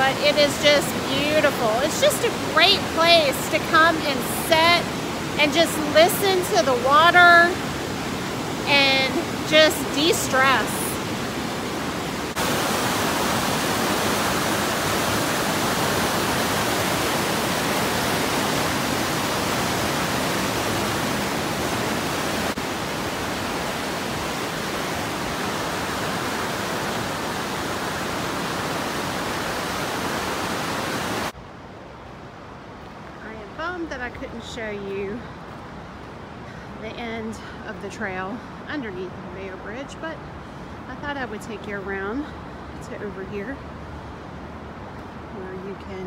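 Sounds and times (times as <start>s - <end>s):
river water rushing: 0.0s - 33.9s, 42.2s - 45.3s.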